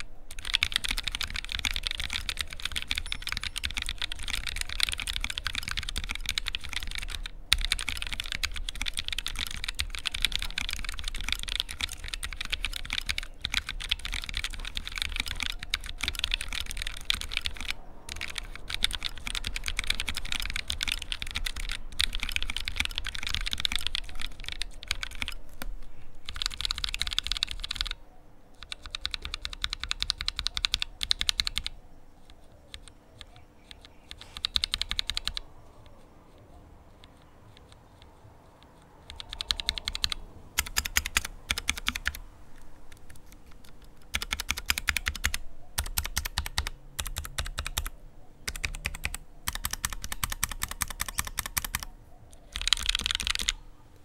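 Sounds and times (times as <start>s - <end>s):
mechanical keyboard typing: 0.0s - 28.0s, 28.6s - 42.2s, 42.9s - 53.6s.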